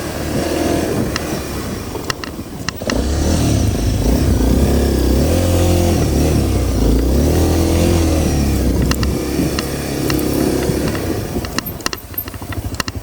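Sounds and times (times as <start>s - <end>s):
motorcycle engine under throttle: 0.0s - 13.0s.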